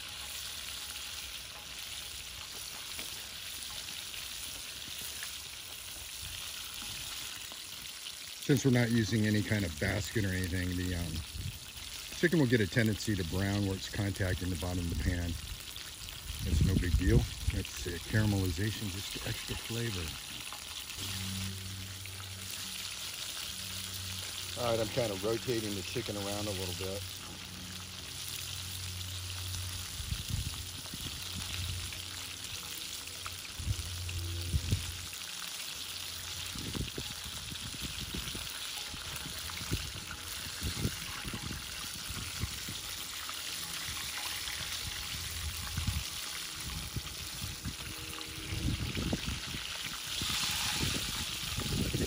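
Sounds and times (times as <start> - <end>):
chicken sizzling in hot oil: 0.0 - 52.0.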